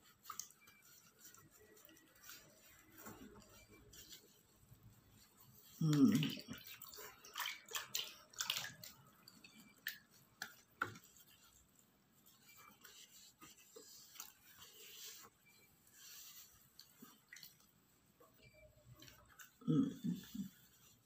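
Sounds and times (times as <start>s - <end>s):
damp cloth rubbing skin: 0.0s - 17.6s
small water sounds: 0.0s - 21.0s.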